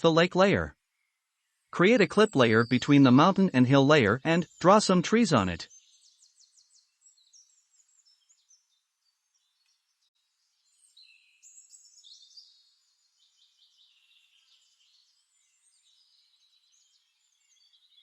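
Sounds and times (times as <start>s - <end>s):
small birds chirping and trilling: 0.4s - 18.0s.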